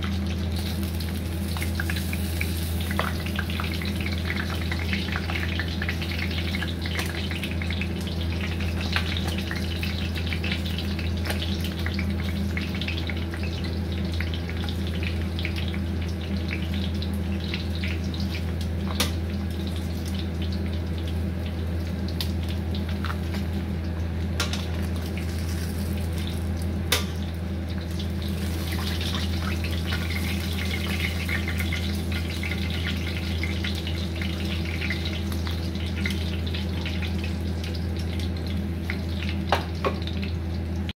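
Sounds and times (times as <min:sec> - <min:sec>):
oil sizzling and crackling: 0:00.0 - 0:40.9.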